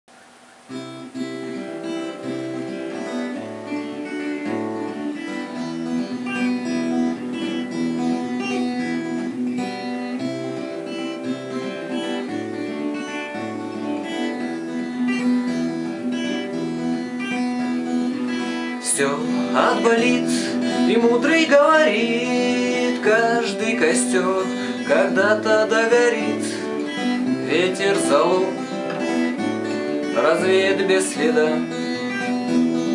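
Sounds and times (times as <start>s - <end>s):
fingerpicked acoustic guitar: 0.1s - 32.9s.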